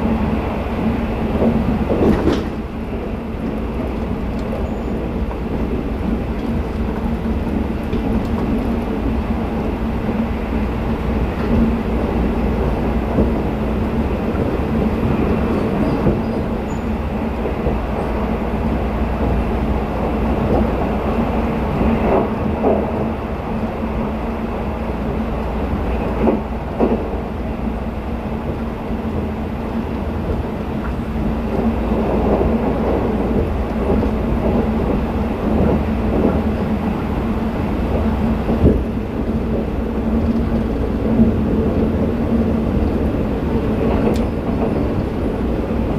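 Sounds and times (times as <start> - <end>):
rail clacks: 0.0 - 45.9
wheels rumbling on rails: 0.0 - 45.9.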